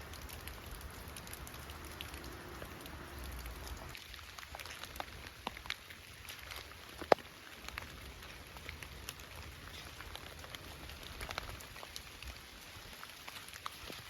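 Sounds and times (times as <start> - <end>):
rain drops pattering: 0.0 - 14.0.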